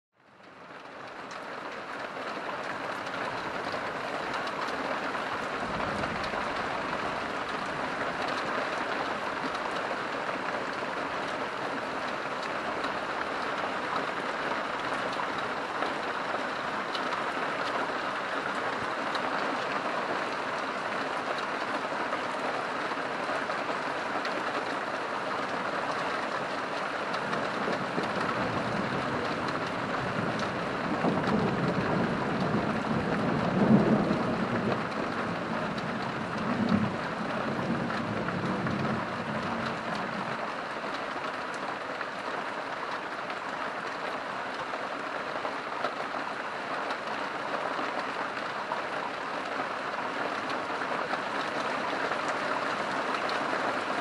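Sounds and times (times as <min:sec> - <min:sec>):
steady rain falling: 0:00.2 - 0:54.0.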